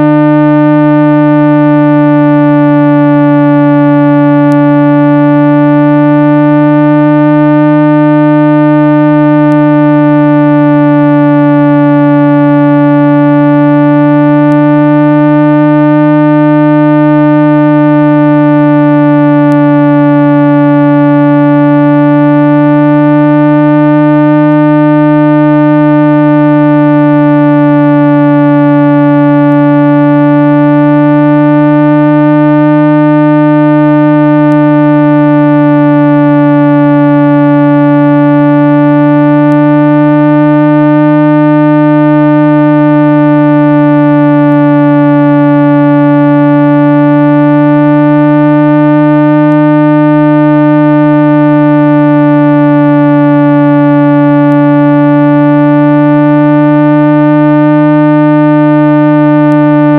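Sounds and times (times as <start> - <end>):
low synthesized hum tone: 0.0 - 59.9.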